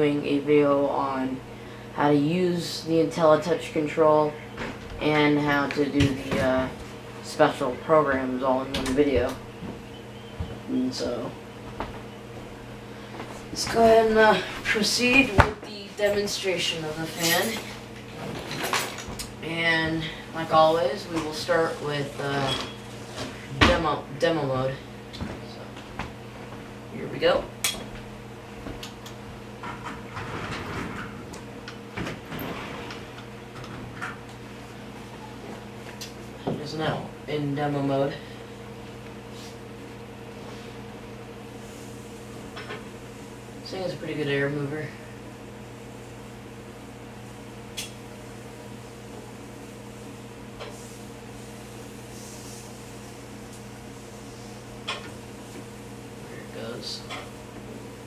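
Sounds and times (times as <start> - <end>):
ceiling fan motor humming: 0.0 - 58.0.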